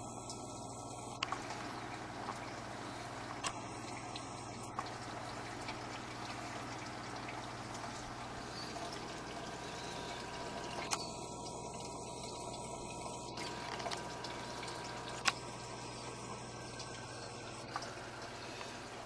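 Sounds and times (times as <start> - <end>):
aquarium water running: 0.0 - 19.0
steady low hum: 0.0 - 19.0.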